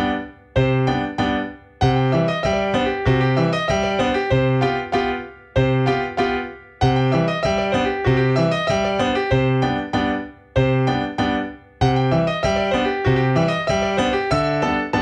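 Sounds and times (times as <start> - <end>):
light piano tune: 0.0 - 15.0.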